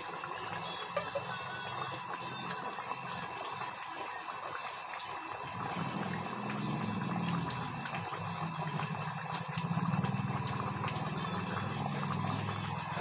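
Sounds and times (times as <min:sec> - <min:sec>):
curry bubbling and popping: 0:00.0 - 0:13.0.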